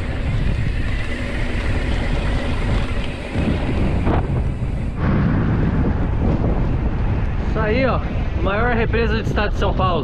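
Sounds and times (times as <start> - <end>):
bike tyres on loose stones: 0.0 - 10.0
wind rushing over microphone: 0.0 - 10.0.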